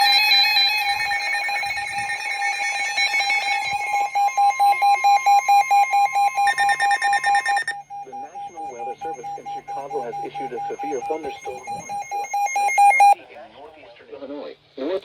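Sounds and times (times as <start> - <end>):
rapid pulsing beep: 0.0 - 13.2
steady high electronic tone: 0.0 - 13.2
weather alert radio alarms: 0.0 - 13.2.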